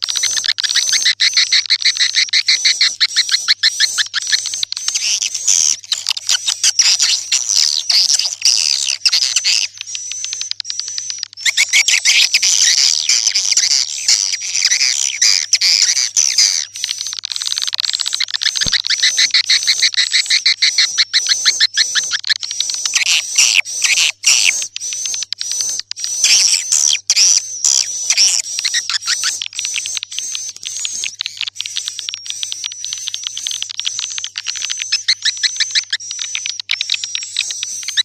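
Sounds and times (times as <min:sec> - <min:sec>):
swiftlets twittering: 0:00.0 - 0:38.0.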